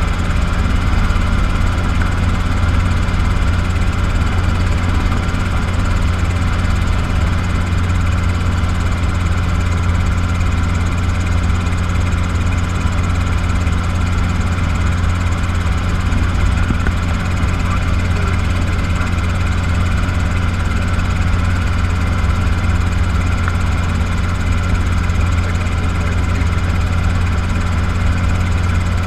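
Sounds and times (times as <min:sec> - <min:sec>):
helicopter engine and rotor drone: 0:00.0 - 0:29.0.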